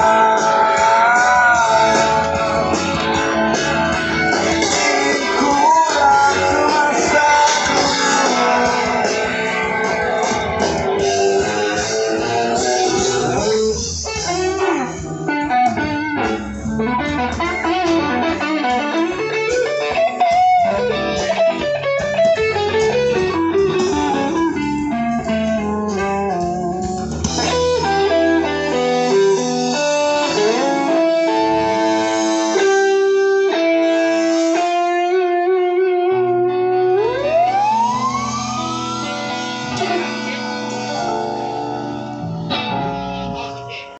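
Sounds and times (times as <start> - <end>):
electric guitar: 0.0 - 43.9
rock band playing through loudspeakers: 0.0 - 43.9.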